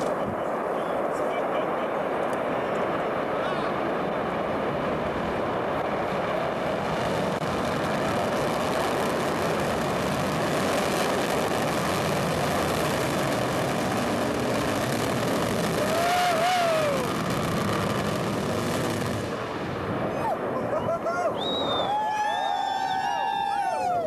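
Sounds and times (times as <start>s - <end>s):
rocket engines rumbling: 0.0s - 24.0s.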